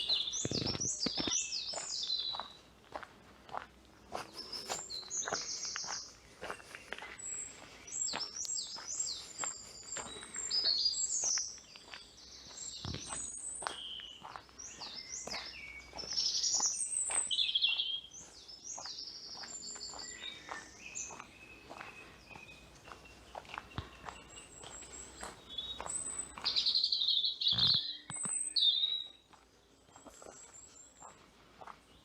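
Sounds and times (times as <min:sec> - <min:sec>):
songbirds chirping and trilling: 0:00.0 - 0:32.0.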